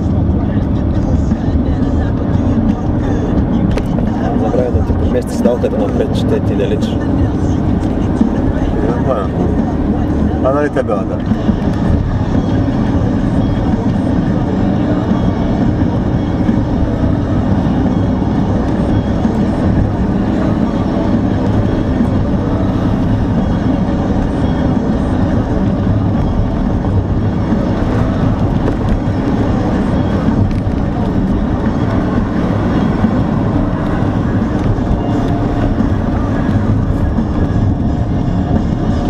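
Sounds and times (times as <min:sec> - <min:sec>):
car driving: 0:00.0 - 0:39.0.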